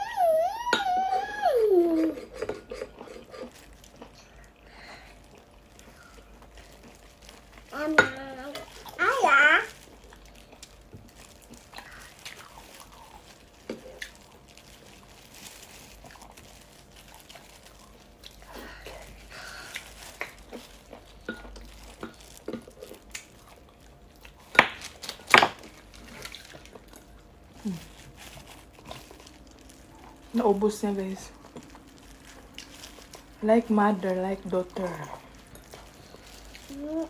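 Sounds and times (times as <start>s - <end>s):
liquid and chewing sounds: 2.0s - 37.0s.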